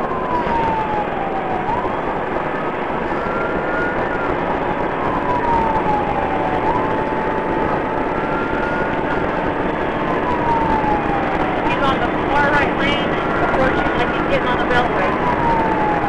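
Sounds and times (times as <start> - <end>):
car driving at highway speed: 0.0 - 16.0
police siren wailing: 0.0 - 16.0.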